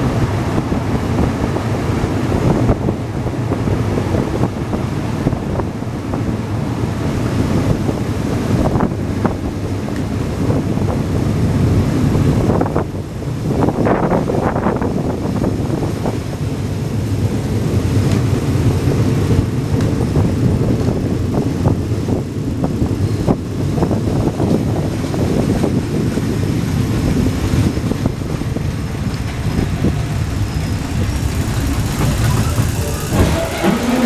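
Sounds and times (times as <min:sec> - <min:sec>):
rushing air: 0:00.0 - 0:34.0
wheels rumbling on rails: 0:00.0 - 0:34.0.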